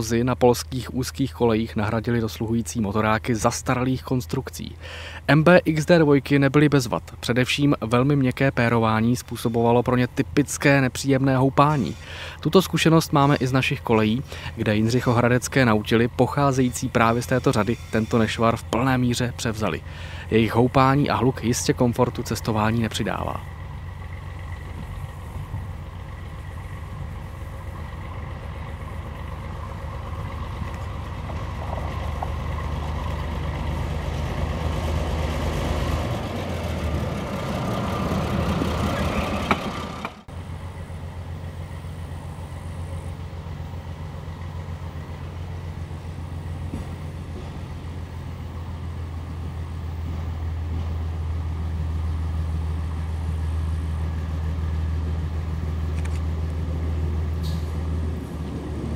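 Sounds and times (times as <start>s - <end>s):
railcar engine hum: 0.0s - 58.9s
train wheel and running noise: 0.0s - 58.9s.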